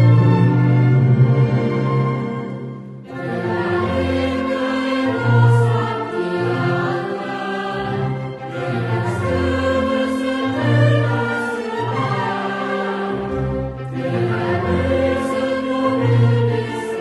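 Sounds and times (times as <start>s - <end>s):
chamber orchestra playing: 0.0s - 17.0s
choir singing: 0.0s - 17.0s.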